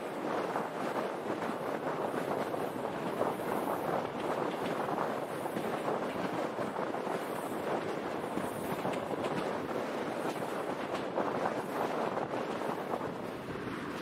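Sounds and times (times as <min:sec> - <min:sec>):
train wheels on rails: 0:00.0 - 0:14.0
wind buffeting microphone: 0:00.0 - 0:14.0.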